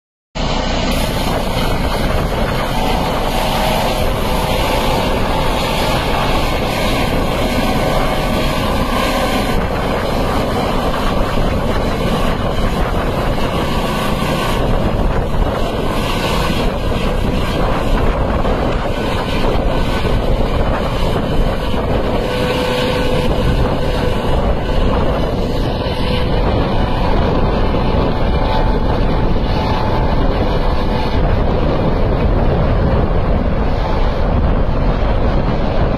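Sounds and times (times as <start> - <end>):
helicopter rotor and turbine: 0.4 - 35.9.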